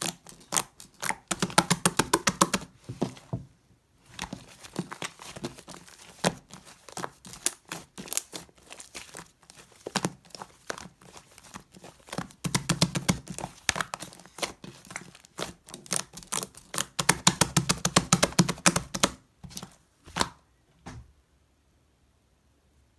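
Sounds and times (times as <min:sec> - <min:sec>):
slime crackling and popping: 0:00.0 - 0:02.7, 0:04.2 - 0:20.3.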